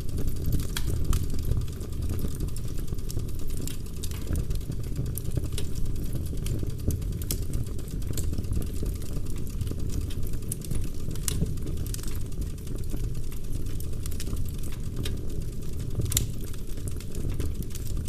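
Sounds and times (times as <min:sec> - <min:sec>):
burning wood crackling and popping: 0:00.0 - 0:18.0
fire flames rumbling: 0:00.0 - 0:18.0.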